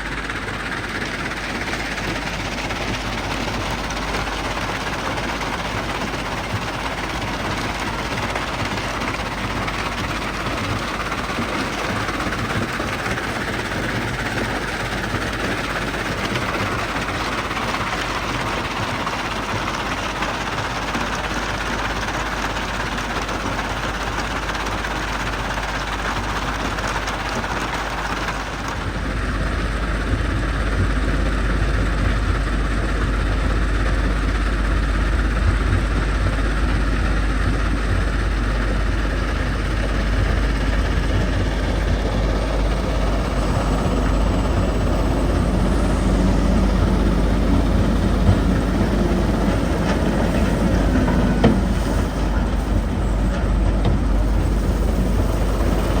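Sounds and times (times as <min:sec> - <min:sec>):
diesel excavator engine: 0:00.0 - 0:56.0
jaw crusher running: 0:00.0 - 0:56.0.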